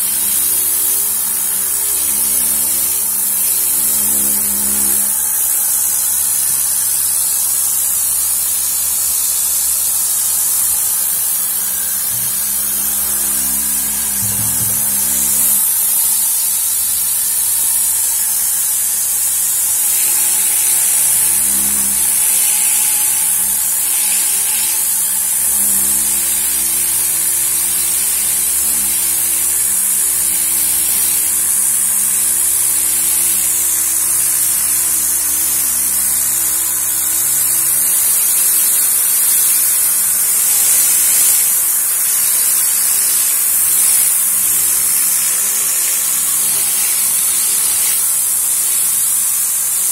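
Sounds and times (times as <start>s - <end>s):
compressed air hissing: 0.0s - 49.9s.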